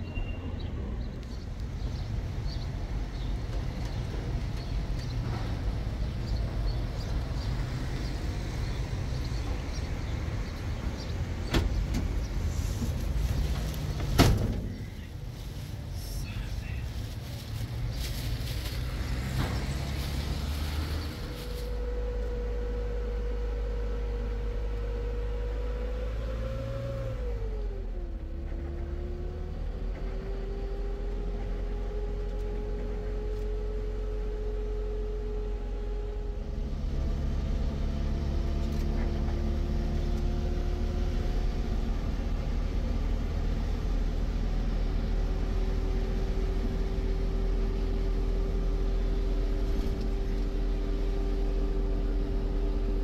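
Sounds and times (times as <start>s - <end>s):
vehicle engine droning: 0.0s - 53.0s.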